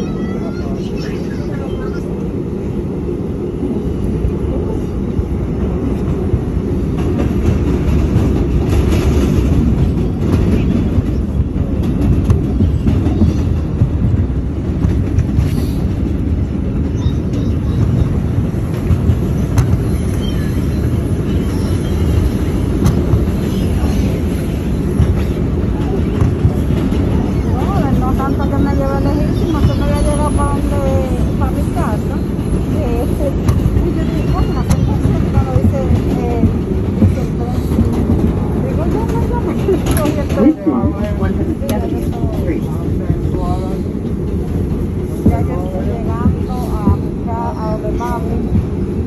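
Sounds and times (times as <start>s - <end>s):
rail clicks: 0.0s - 49.0s
subway wheels rumbling on rails: 0.0s - 49.0s.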